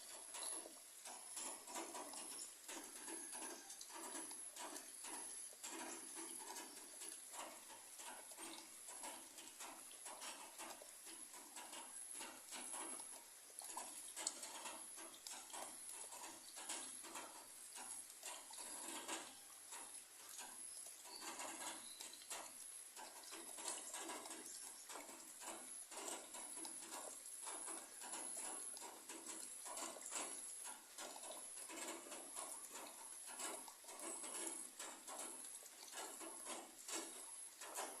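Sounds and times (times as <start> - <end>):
rain pattering on leaves: 0.0 - 38.0.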